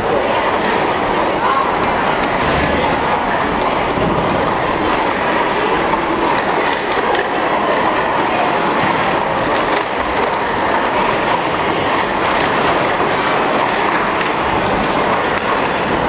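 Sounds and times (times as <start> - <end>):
background noise: 0.0 - 16.0.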